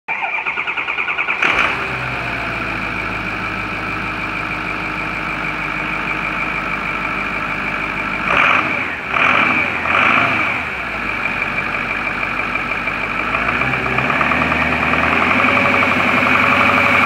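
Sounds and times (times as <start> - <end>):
diesel engine starting and idling: 0.1 - 17.0.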